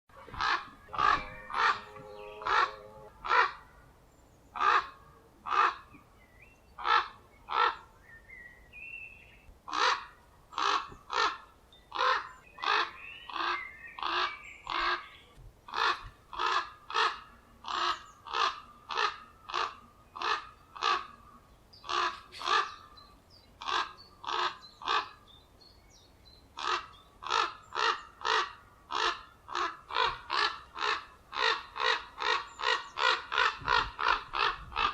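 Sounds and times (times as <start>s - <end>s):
ravens giving harsh alarm calls: 0.1s - 3.9s, 4.5s - 5.9s, 6.8s - 7.9s, 9.7s - 23.0s, 23.6s - 25.3s, 26.6s - 34.9s.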